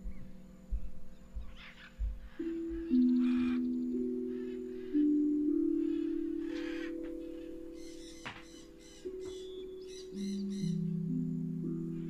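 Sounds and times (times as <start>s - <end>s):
singing bowls ringing: 0.0s - 12.0s.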